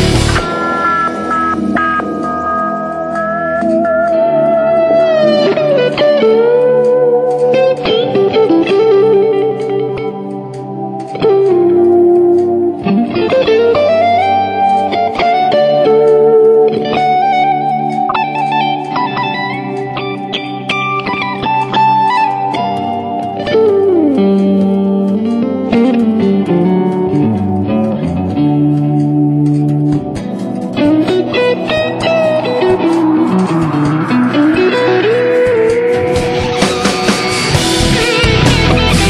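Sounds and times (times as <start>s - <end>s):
guitar music with sliding notes: 0.0s - 39.0s.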